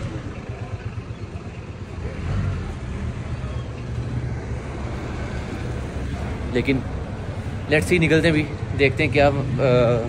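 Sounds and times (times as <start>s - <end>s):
traffic engines rumbling: 0.0s - 10.0s.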